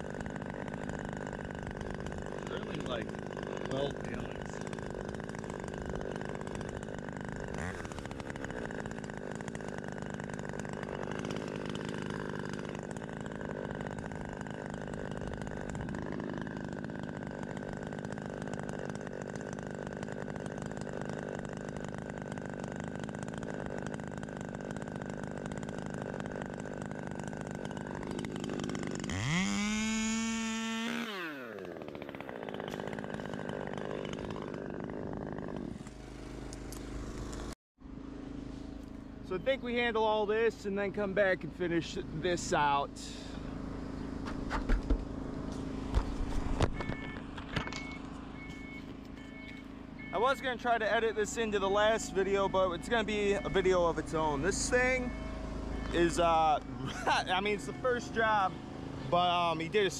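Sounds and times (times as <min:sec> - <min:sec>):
chainsaw idling and revving: 0:00.0 - 0:59.9.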